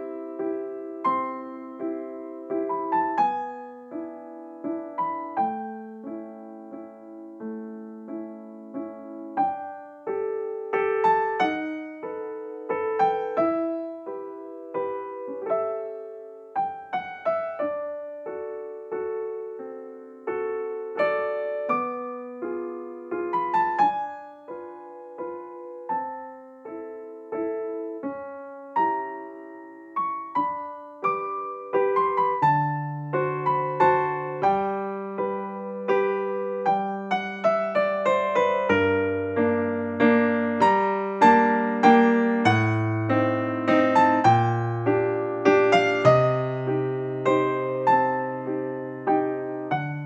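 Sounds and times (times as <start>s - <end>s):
slow piano music: 0.0s - 50.0s.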